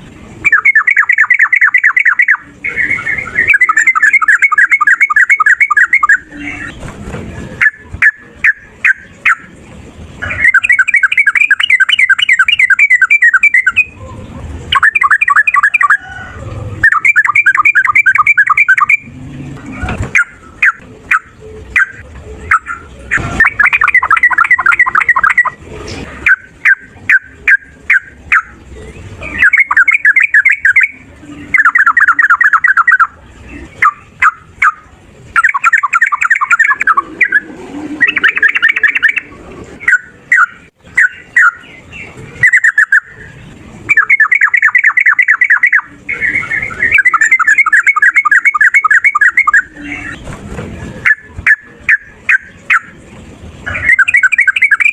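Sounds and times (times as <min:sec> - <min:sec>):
bird trilled song: 0:00.4 - 0:06.9, 0:07.6 - 0:09.6, 0:10.2 - 0:19.2, 0:20.0 - 0:25.6, 0:26.2 - 0:50.3, 0:53.6 - 0:54.9.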